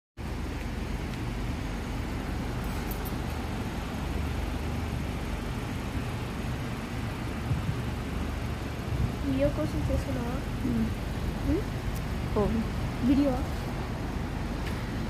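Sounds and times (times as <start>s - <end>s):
low background rumble: 0.2s - 15.0s.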